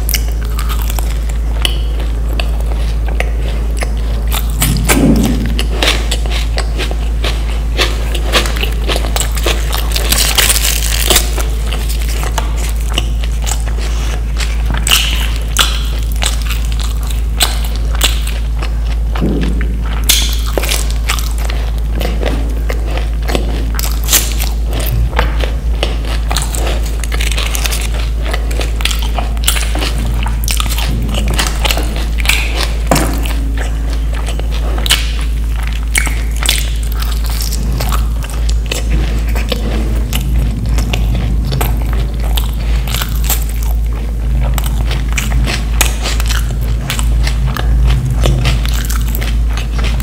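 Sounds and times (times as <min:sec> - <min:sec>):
crunching bites and chewing: 0:00.0 - 0:50.0
steady low hum: 0:00.0 - 0:50.0.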